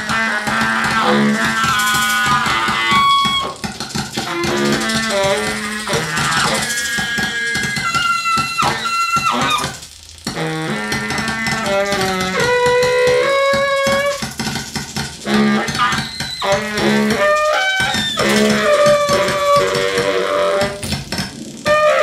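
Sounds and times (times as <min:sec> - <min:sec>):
baritone saxophone: 0:00.0 - 0:14.3, 0:15.2 - 0:22.0
turntable clicks: 0:00.0 - 0:22.0.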